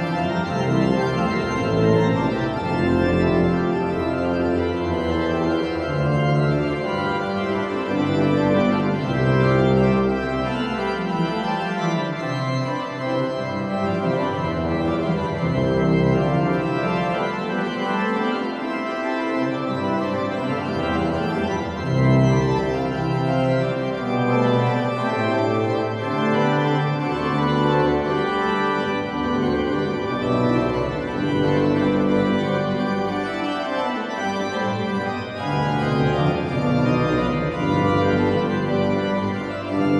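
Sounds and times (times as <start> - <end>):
organ music: 0.0 - 39.9.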